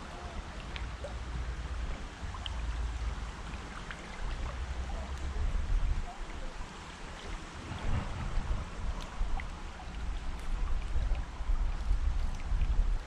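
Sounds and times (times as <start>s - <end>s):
water washing: 0.0s - 13.0s
wind buffeting microphone: 0.0s - 13.0s.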